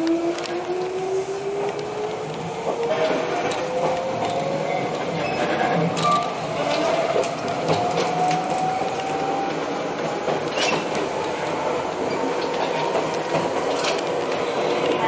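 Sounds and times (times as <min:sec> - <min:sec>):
sharp clacks of wheels: 0:00.0 - 0:15.0
wheels running on rails: 0:00.0 - 0:15.0.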